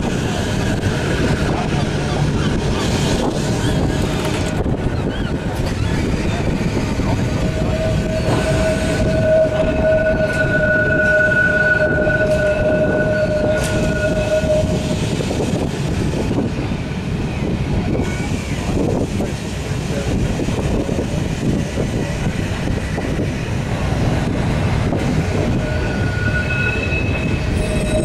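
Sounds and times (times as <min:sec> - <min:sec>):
tram wheels squealing: 0:00.0 - 0:16.3, 0:21.7 - 0:28.0
tram running gear rumbling: 0:00.0 - 0:28.0.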